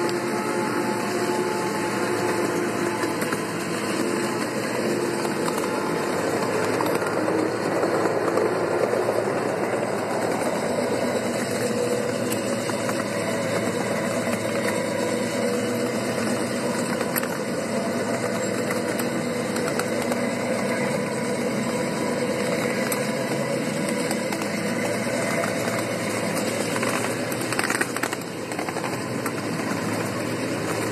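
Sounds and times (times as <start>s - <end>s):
small locomotive engine running: 0.0s - 30.9s
wheels rolling on rails: 0.0s - 30.9s.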